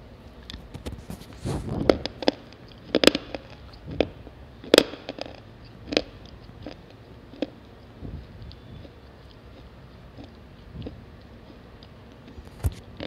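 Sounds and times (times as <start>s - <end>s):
brittle crunches of chewing: 0.4s - 13.0s.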